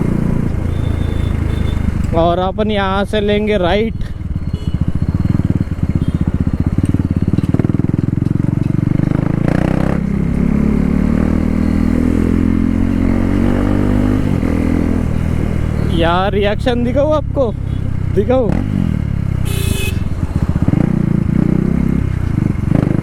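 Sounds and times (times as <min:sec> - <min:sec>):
loud motorcycle engine revving: 0:00.0 - 0:23.0.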